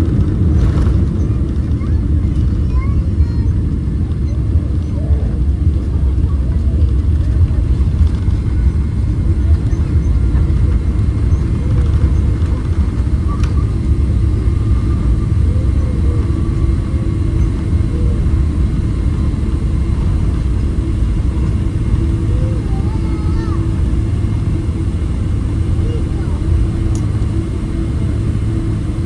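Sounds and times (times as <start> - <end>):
jet airliner cabin rumble: 0.0 - 29.0.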